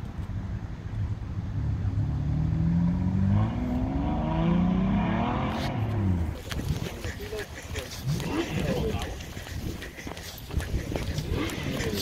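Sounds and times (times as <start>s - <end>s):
sports car engine accelerating: 1.1s - 12.0s.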